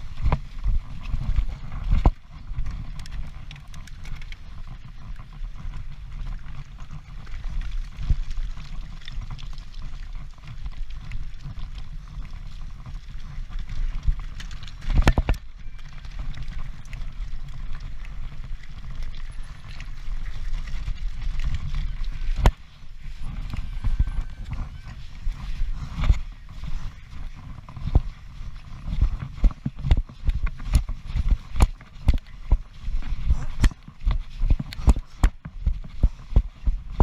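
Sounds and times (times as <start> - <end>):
bike rattling over rough trail: 0.0 - 37.0
wind rumble on camera: 0.0 - 37.0.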